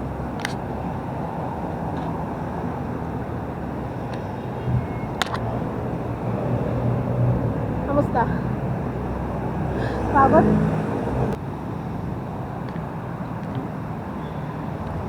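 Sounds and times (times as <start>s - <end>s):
heavy road traffic rumble: 0.0s - 15.0s.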